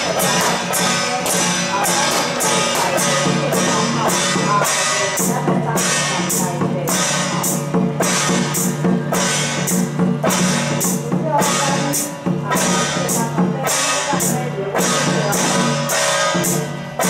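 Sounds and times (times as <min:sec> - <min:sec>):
drums and cymbals beat: 0:00.0 - 0:17.0.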